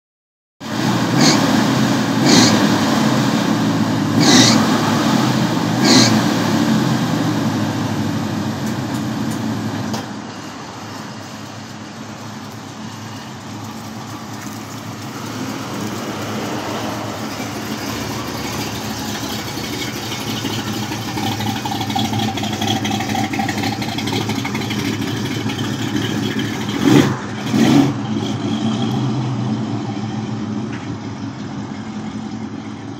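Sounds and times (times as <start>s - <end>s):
car engine revving: 0.6s - 10.1s, 11.5s - 32.9s.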